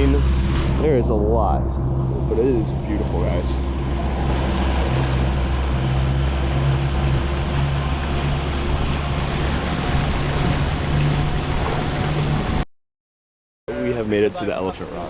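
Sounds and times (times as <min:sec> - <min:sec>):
boat engine humming: 0:00.0 - 0:12.6, 0:13.7 - 0:15.0
water rushing past: 0:00.0 - 0:12.6.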